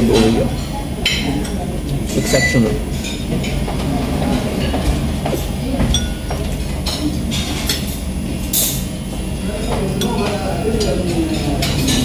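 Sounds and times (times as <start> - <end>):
steady low hum: 0.0 - 12.0
cutlery and crockery clinking: 0.1 - 8.9, 9.5 - 12.0.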